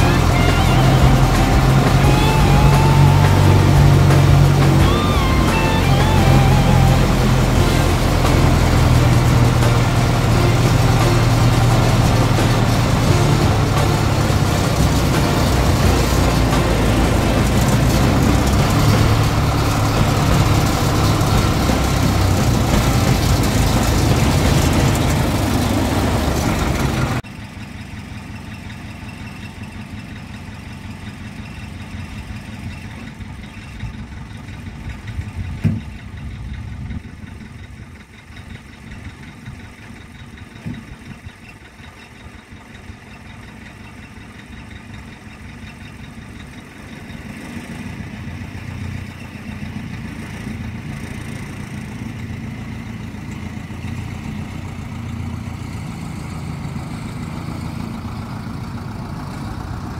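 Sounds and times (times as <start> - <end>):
diesel engine running loudly: 0.0 - 59.9
engine idling quietly: 0.0 - 59.9.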